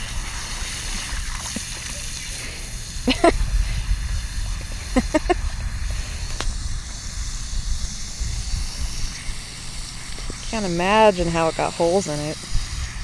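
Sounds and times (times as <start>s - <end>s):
dog biting at water jet: 0.0s - 13.0s
water spraying from hose: 0.0s - 13.0s.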